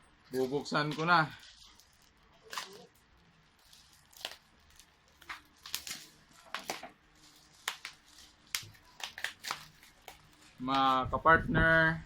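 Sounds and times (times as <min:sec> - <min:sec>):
packaging snapping and rustling: 0:00.9 - 0:11.0.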